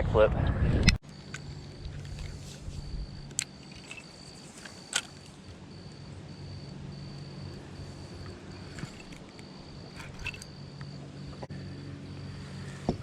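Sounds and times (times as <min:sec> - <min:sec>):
insect chirping: 0:01.0 - 0:13.0
faint low hum: 0:01.1 - 0:13.0.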